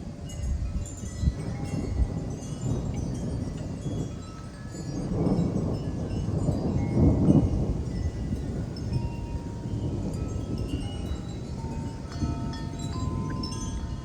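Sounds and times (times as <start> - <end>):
gusty wind: 0.0 - 14.0
wind chimes ringing: 0.1 - 14.0.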